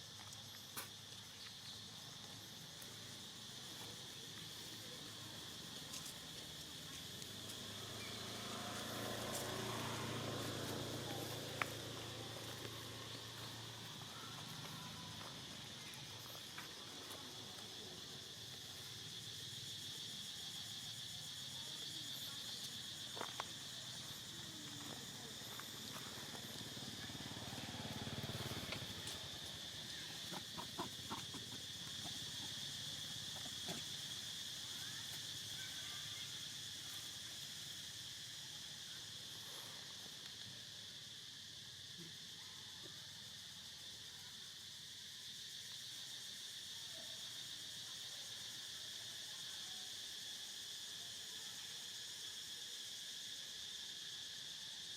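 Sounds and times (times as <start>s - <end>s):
crickets droning: 0.0s - 54.9s.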